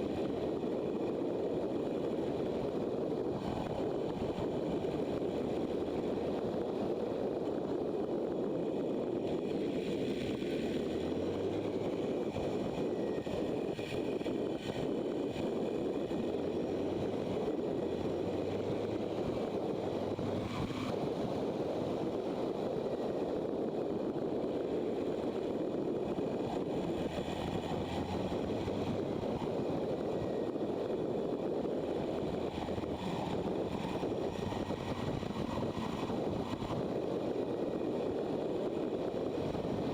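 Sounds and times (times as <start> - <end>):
motorcycle engine hum: 0.0 - 39.9
wind and road noise: 0.0 - 39.9.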